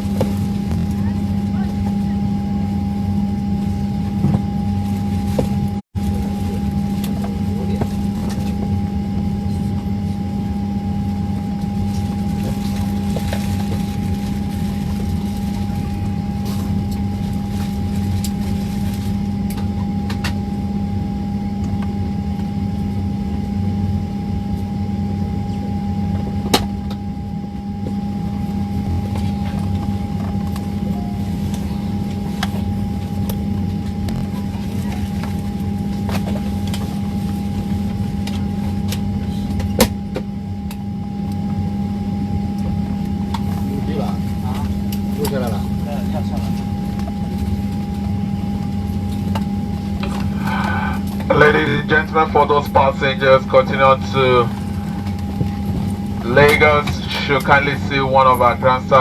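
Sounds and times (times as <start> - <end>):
airliner cabin hum: 0.0 - 59.0
thin steady whine: 0.0 - 59.0.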